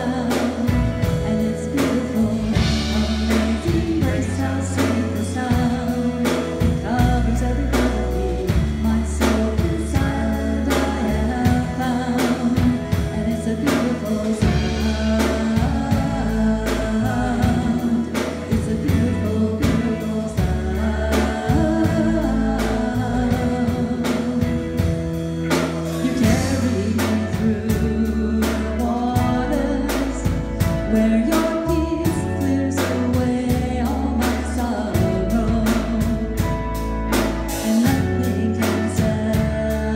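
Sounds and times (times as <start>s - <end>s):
drum kit beat: 0.0s - 39.9s
electric guitars: 0.0s - 39.9s
keyboard: 0.0s - 39.9s
sustained low bass notes: 0.0s - 39.9s
woman singing lead: 0.0s - 39.9s.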